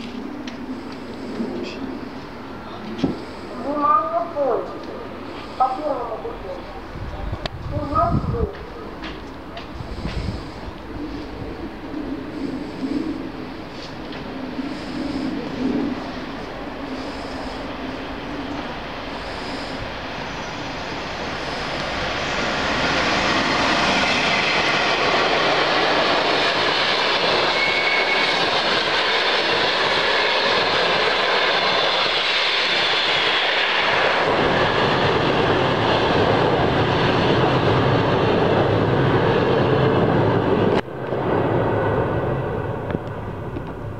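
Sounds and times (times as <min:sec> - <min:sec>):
passenger train passing: 0:00.0 - 0:43.9.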